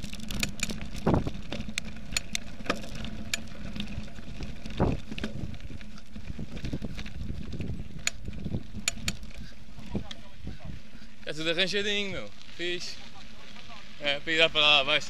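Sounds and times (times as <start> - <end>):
bike clicks and rattles: 0.0 - 15.0
bike ride rumble: 0.0 - 15.0.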